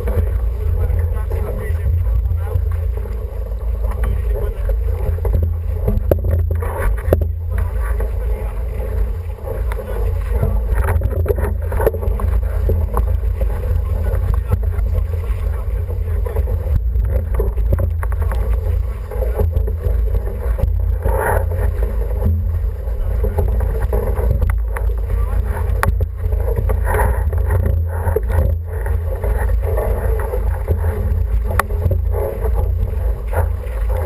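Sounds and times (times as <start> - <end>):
water rushing and splashing: 0.0 - 34.0
wind buffeting microphone: 0.0 - 34.0.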